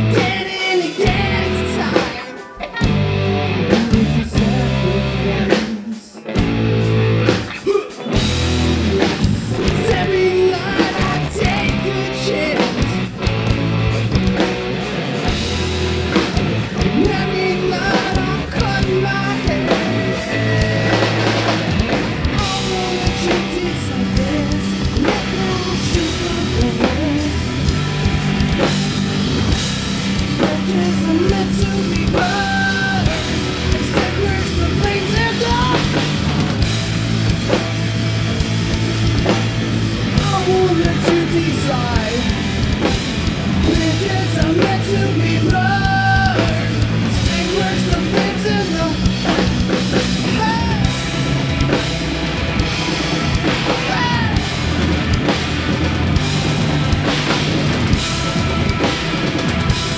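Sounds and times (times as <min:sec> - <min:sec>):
vocalist singing: 0:00.0 - 0:06.6, 0:07.4 - 0:13.3, 0:16.1 - 0:36.7, 0:38.9 - 0:59.9
bass guitar: 0:00.0 - 0:59.9
distorted electric guitars: 0:00.0 - 0:59.9
drum kit: 0:00.0 - 0:59.9.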